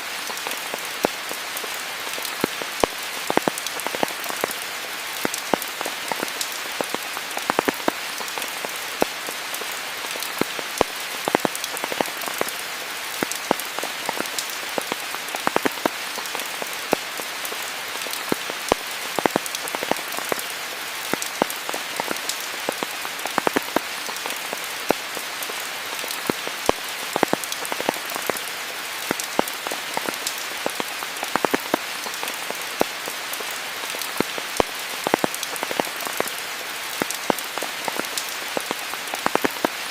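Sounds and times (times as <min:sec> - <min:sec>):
sharp raindrops striking: 0:00.0 - 0:39.9
steady rain hiss: 0:00.0 - 0:39.9.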